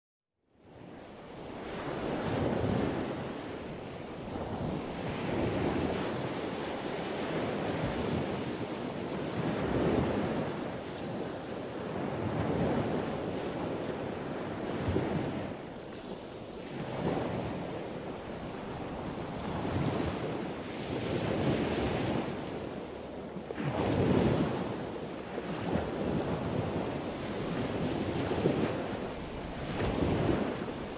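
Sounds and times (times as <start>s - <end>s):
ocean waves washing onto shore: 0.6s - 30.9s.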